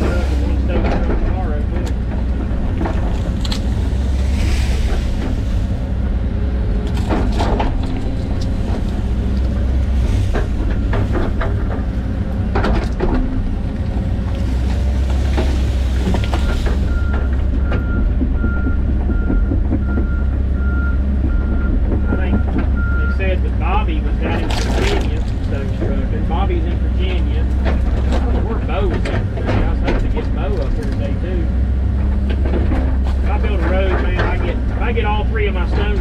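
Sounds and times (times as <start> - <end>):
excavator diesel engine running: 0.0 - 36.0
trees cracking and knocking: 0.0 - 36.0.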